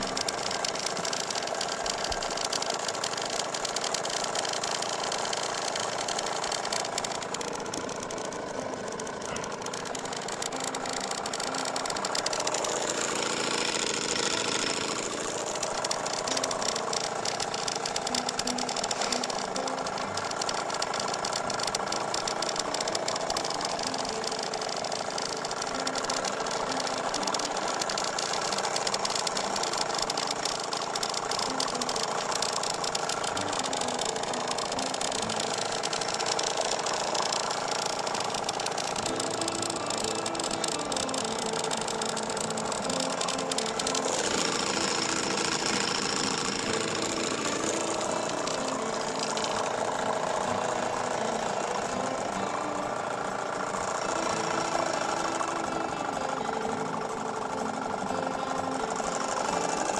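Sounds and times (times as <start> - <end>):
outboard motor running steadily: 0.0 - 59.9.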